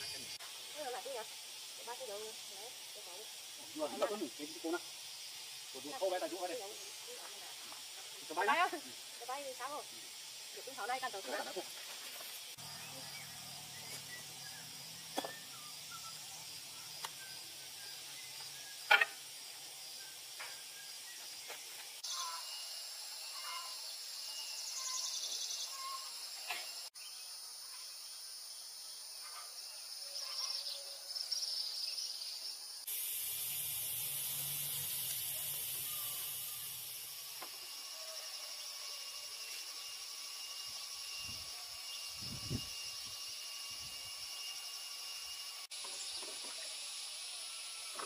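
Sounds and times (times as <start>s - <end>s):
high insect-like chirping: 0.0s - 48.0s
outdoor background hiss: 0.0s - 48.0s.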